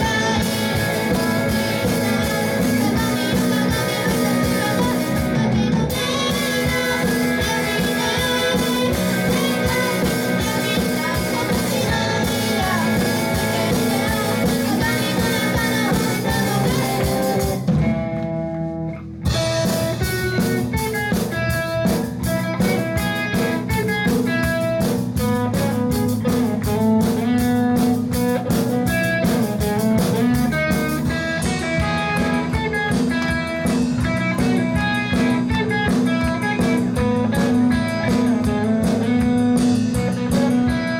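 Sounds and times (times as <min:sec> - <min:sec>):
drum kit beat: 0:00.0 - 0:40.9
guitar: 0:00.0 - 0:40.9
live band music: 0:00.0 - 0:40.9.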